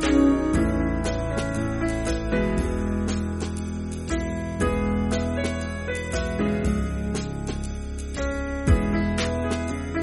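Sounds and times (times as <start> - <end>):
gentle background music: 0.0 - 10.0.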